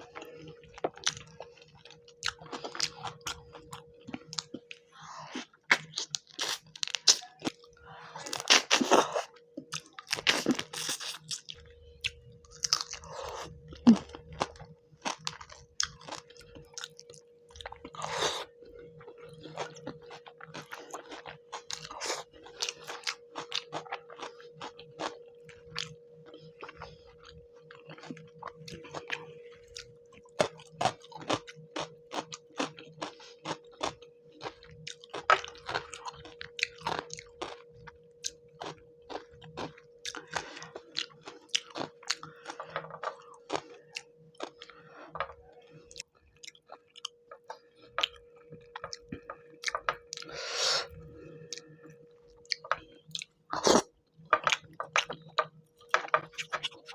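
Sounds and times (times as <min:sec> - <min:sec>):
chewing food close up: 0:00.0 - 0:56.9
faint steady hum: 0:00.0 - 0:56.9.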